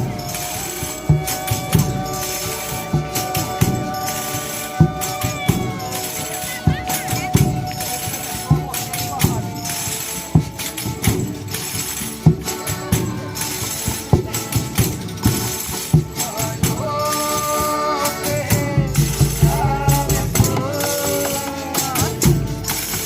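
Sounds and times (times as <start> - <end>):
drum beating steady rhythm: 0.0 - 23.0
long held notes: 0.0 - 23.0
tambourines jingling: 0.0 - 23.0.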